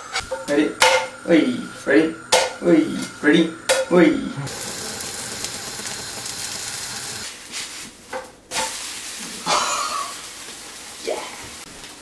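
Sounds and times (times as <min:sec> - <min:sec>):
batter sizzling in frying pan: 0:00.1 - 0:07.9, 0:08.5 - 0:12.0.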